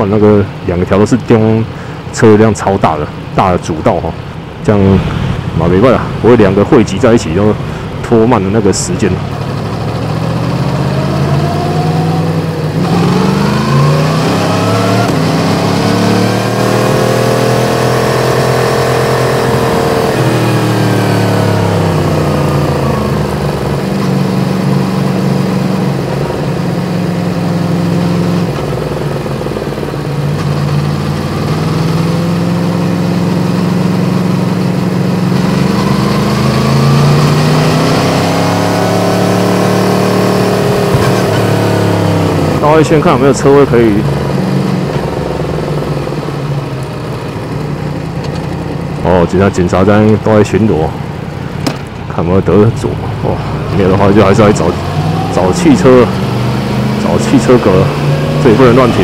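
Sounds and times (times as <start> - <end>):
wind and road noise: 0.0 - 59.0
motorcycle engine accelerating: 4.8 - 59.0.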